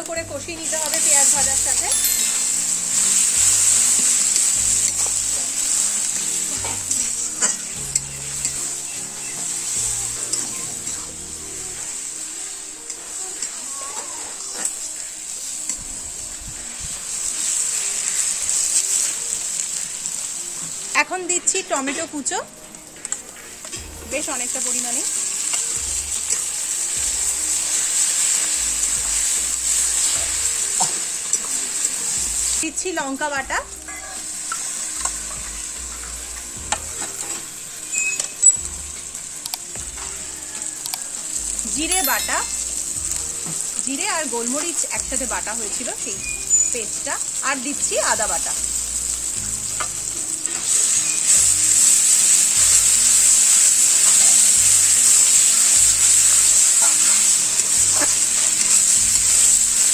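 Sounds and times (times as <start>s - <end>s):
onions sizzling in oil: 0.0s - 59.9s.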